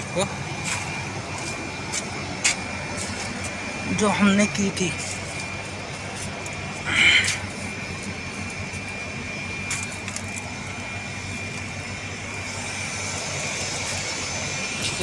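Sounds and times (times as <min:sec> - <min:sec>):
air conditioner hum: 0:00.0 - 0:15.0
high whine: 0:00.0 - 0:15.0.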